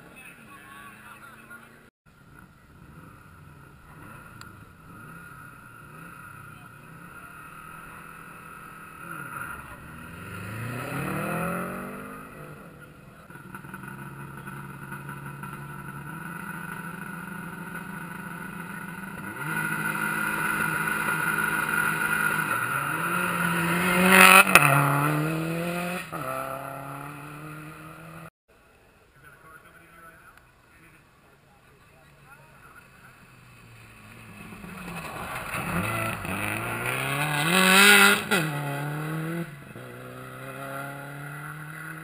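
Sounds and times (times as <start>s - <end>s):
rally car engine accelerating: 2.4s - 28.3s, 32.0s - 42.0s.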